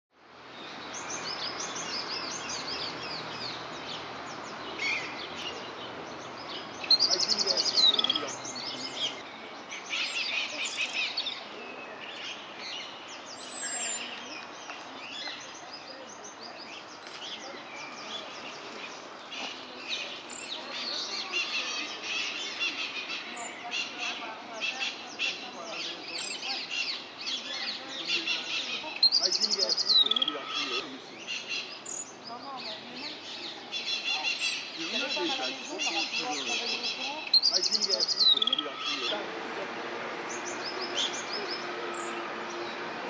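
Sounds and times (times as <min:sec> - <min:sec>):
songbirds chirping and singing: 0:00.4 - 0:43.0.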